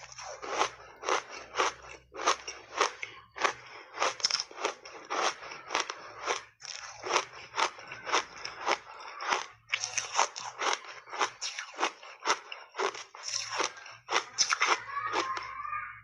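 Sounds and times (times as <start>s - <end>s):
crunchy ice chewing: 0.0s - 15.7s.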